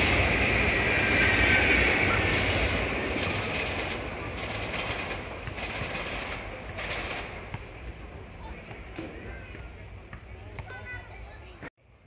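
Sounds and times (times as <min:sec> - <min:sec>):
train passing rumble: 0:00.0 - 0:10.1.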